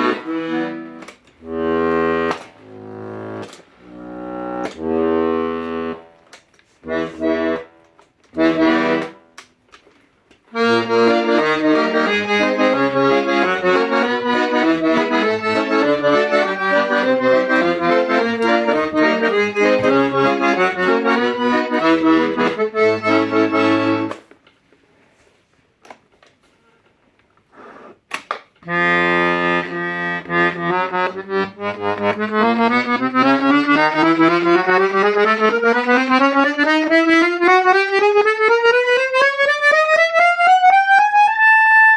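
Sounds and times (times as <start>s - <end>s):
reed organ playing: 0.0s - 9.2s, 10.5s - 24.2s, 28.6s - 41.9s.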